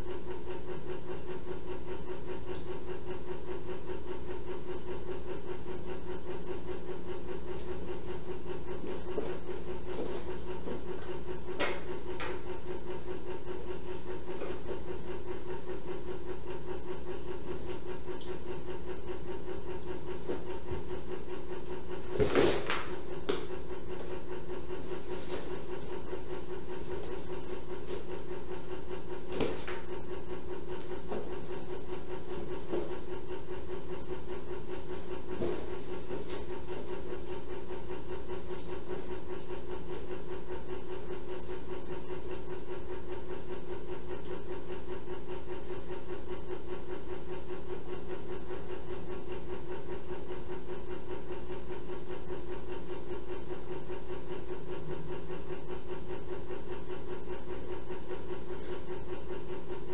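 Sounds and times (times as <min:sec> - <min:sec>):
machine hum with held tone: 0:00.0 - 0:59.9.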